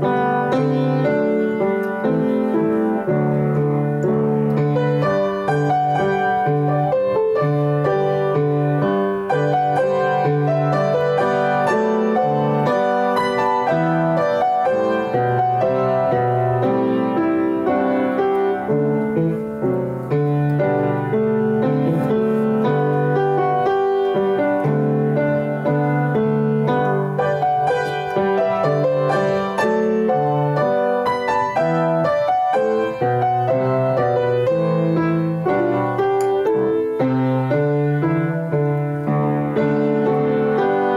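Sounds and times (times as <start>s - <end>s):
piano music: 0.0s - 40.9s.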